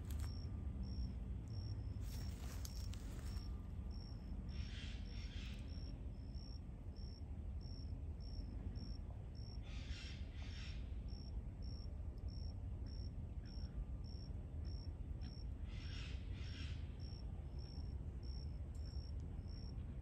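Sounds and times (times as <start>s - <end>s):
insect chirping: 0.0s - 19.8s.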